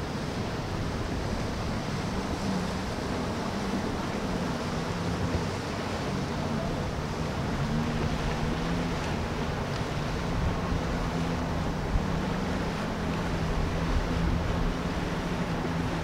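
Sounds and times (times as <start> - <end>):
outboard engines humming: 0.0 - 16.0
water: 0.0 - 16.0.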